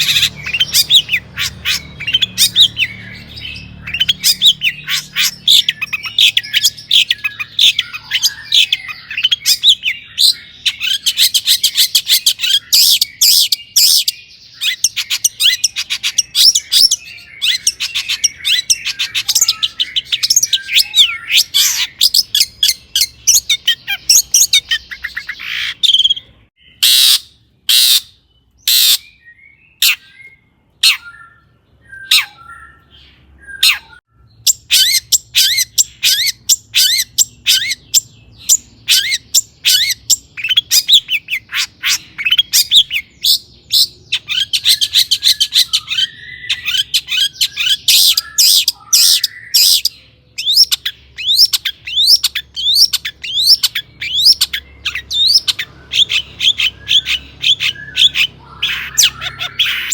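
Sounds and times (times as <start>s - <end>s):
shrike singing: 0.0s - 59.9s.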